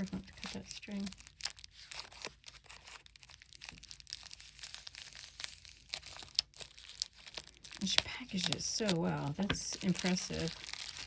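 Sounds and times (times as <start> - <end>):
packaging crinkling and rustling: 0.0 - 11.0
small clicks and crackles: 0.0 - 11.0.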